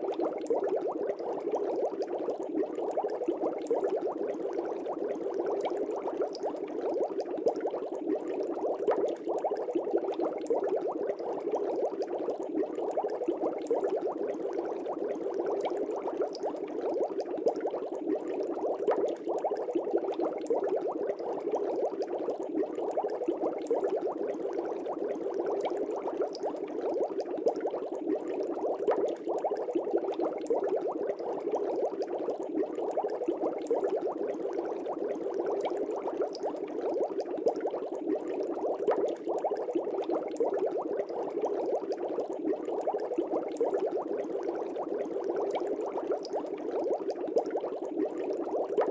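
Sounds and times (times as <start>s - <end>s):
aquarium bubbling: 0.0s - 48.9s.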